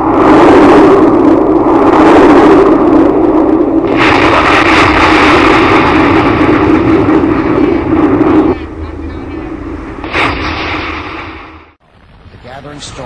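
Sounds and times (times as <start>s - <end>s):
explosion roar: 0.0s - 13.0s.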